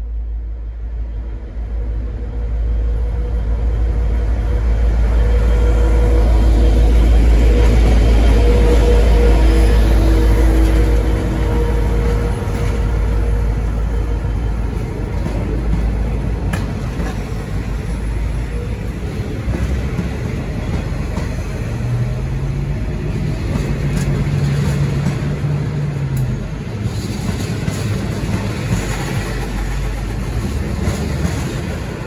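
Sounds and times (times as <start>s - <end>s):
locomotive engine rumbling: 0.0s - 32.0s.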